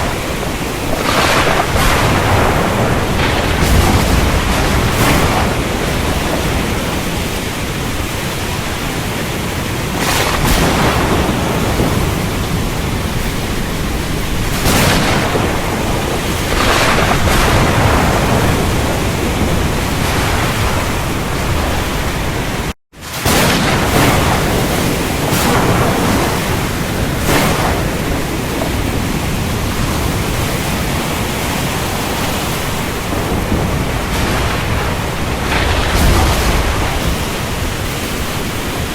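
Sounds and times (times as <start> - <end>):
heavy rain pouring: 0.0 - 38.9
strong wind gusts: 0.0 - 38.9.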